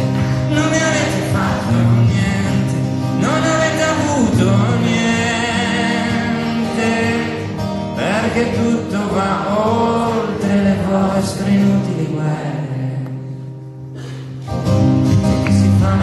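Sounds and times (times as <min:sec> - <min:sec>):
man singing: 0:00.0 - 0:13.4, 0:15.1 - 0:16.0
acoustic guitars: 0:00.0 - 0:16.0.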